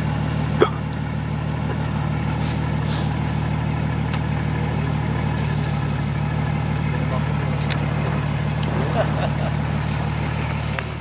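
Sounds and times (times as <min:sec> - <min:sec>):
suv engine idling: 0:00.0 - 0:11.0.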